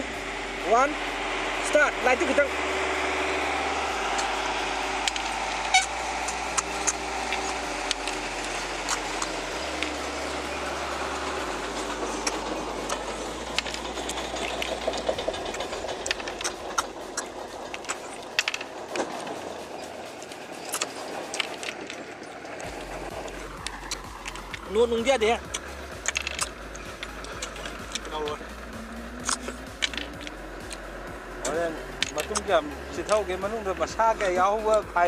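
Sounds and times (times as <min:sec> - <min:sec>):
steady low rumble: 0:00.0 - 0:35.0
snails being sucked from shells: 0:02.6 - 0:24.7, 0:25.3 - 0:33.2.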